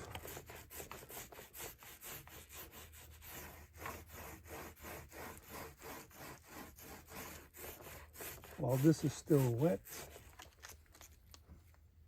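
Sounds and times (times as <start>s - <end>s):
rhythmic rubbing strokes: 0.0s - 10.4s.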